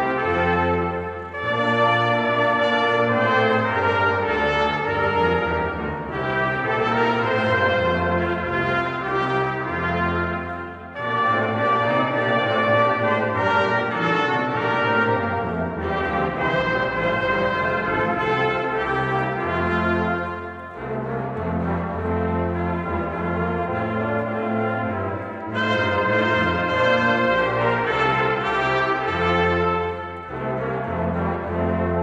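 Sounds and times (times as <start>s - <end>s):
brass choir playing slow chords: 0.0s - 32.0s.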